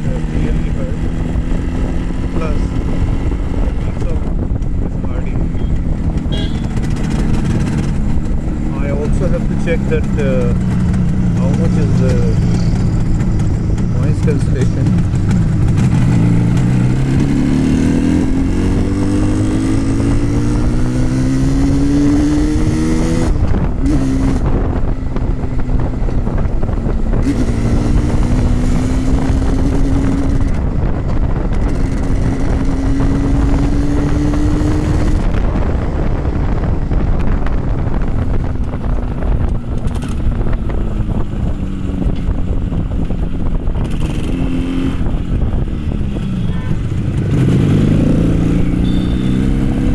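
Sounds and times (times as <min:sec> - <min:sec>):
two-stroke motorcycle engine: 0:00.0 - 0:49.9
wind rushing over microphone: 0:00.0 - 0:49.9.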